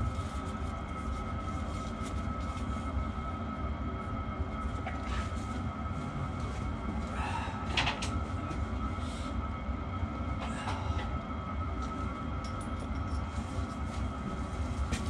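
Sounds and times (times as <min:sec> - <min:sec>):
mechanical hum with whine: 0:00.0 - 0:15.0.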